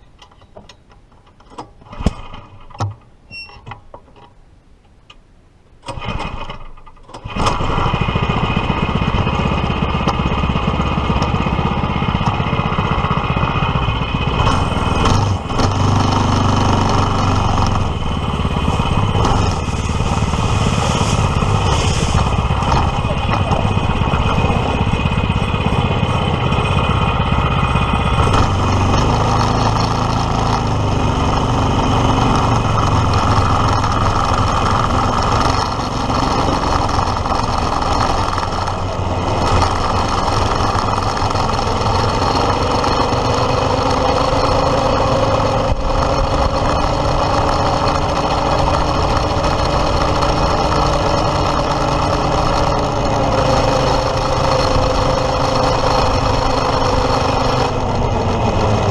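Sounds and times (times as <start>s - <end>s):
kart engine running: 5.9s - 58.9s.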